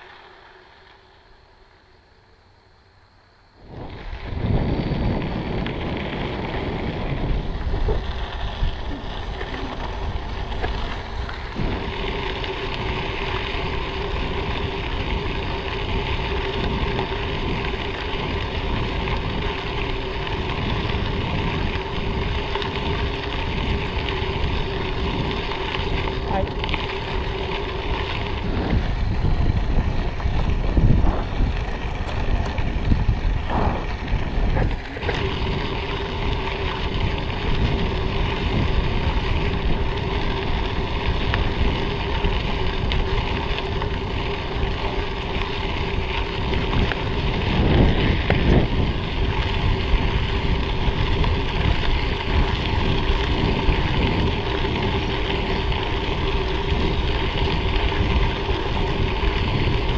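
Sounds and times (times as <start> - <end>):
bicycle tyres rolling: 0.0 - 59.9
constant low hum: 0.0 - 59.9
wind rushing over microphone: 3.4 - 59.9.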